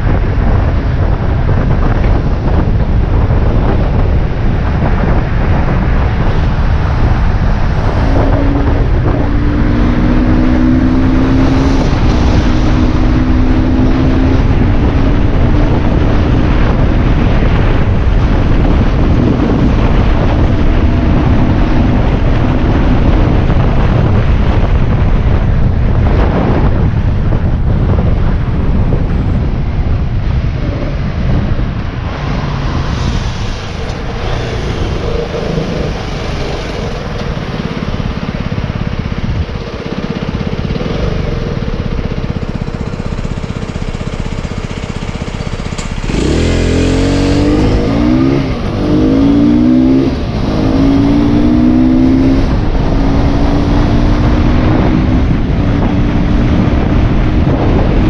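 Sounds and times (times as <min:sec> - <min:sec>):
motorbike engine: 0:00.0 - 0:58.0
wind noise: 0:00.0 - 0:58.0.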